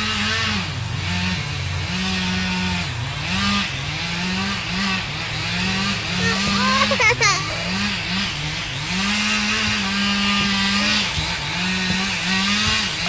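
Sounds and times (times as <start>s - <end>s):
chainsaw cutting a tree: 0.0s - 13.0s.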